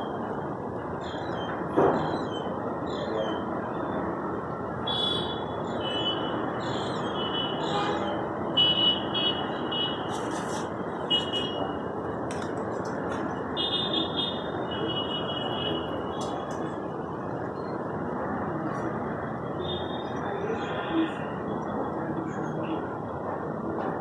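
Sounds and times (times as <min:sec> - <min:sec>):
background traffic rumble: 0:00.0 - 0:24.0.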